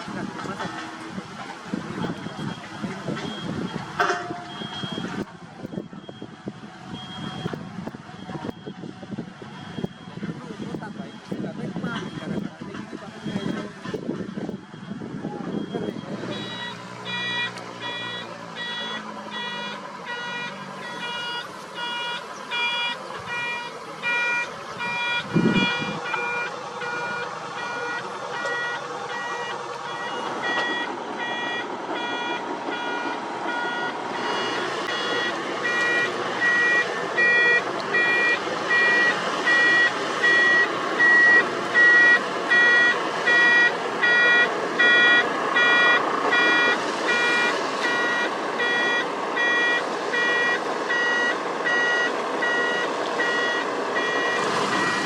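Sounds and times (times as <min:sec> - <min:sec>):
diesel engines running: 0:00.0 - 0:55.0
reversing alarm beeping: 0:02.0 - 0:55.0.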